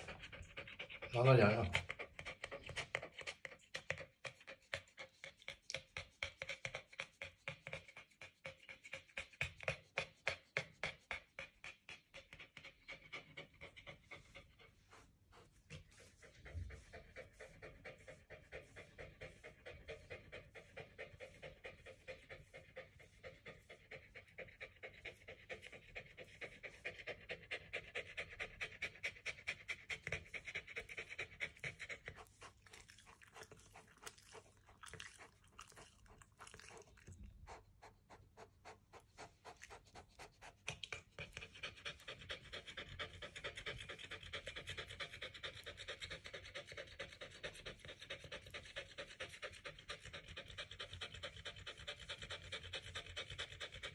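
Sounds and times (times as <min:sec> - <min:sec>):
dog panting: 0:00.0 - 0:53.9.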